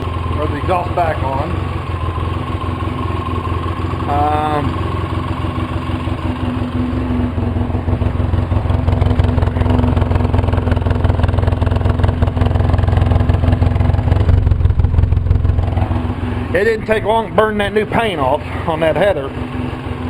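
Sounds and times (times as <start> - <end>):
atv engine idling: 0.0 - 20.0.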